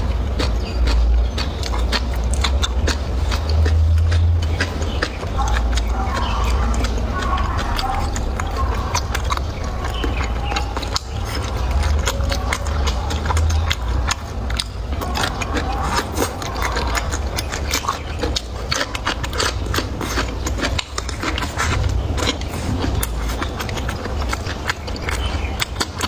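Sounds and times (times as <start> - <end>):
chewing with wet crunches: 0.0 - 26.0.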